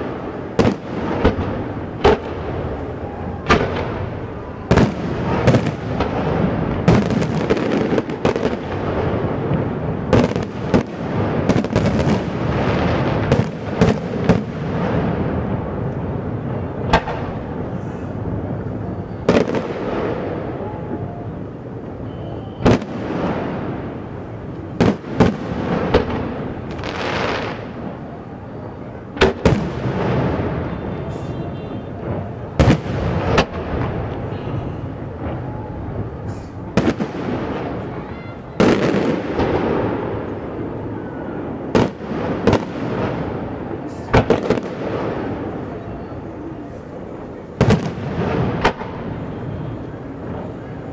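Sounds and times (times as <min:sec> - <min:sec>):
fireworks bangs and crackle: 0:00.0 - 0:50.9.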